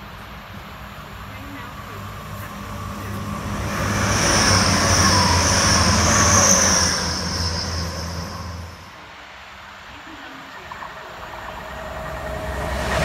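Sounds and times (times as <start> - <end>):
low hum: 0.0 - 9.6, 10.5 - 13.0
steady high whine: 0.0 - 13.0
train passing: 0.0 - 13.0.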